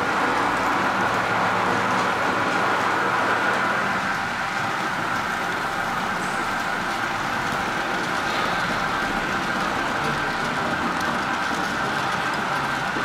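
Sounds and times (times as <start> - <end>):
model trains whirring on rails: 0.0 - 13.0.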